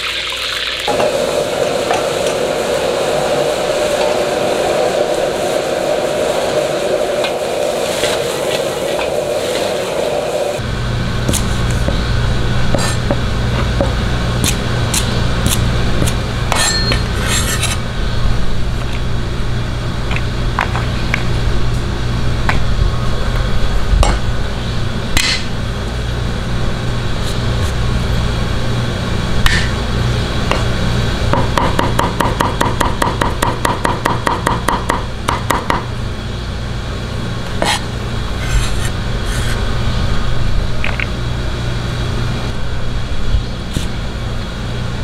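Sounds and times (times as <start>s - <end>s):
steady low hum: 0.8s - 45.0s.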